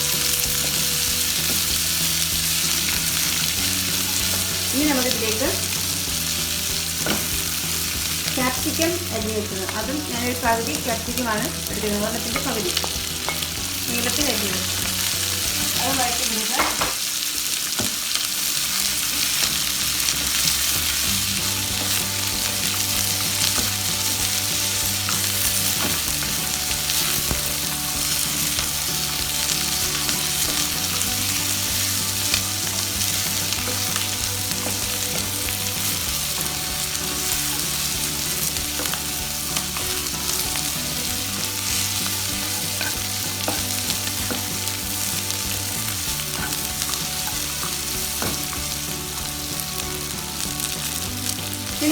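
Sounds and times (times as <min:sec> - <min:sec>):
vegetables sizzling in hot oil: 0:00.0 - 0:51.9.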